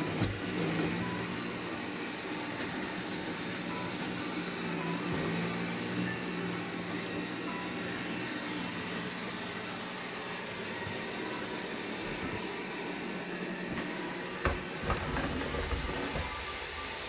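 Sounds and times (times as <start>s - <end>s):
robot vacuum humming: 0.0s - 17.0s.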